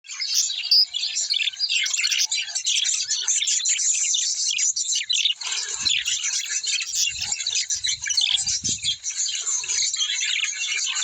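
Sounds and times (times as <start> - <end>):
flock of small birds chirping: 0.0 - 11.0.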